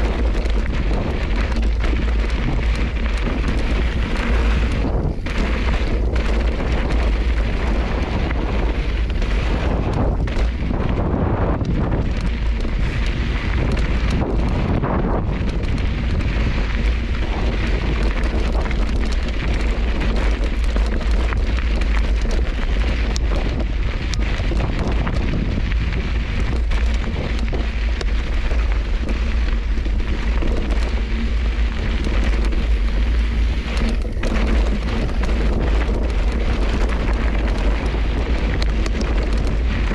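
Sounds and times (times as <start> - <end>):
bike tyres crunching on rocky trail: 0.0 - 39.9
wind buffeting microphone: 0.0 - 39.9.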